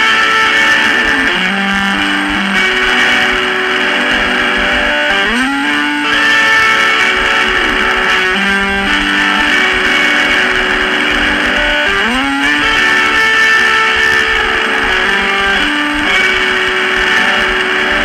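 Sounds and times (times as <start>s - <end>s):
lo-fi guitar music: 0.0s - 18.0s.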